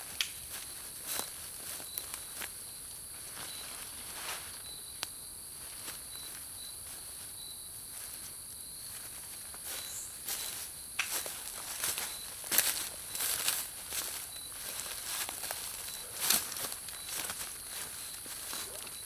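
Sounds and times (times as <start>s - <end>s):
crickets droning and trilling: 0.0s - 19.0s.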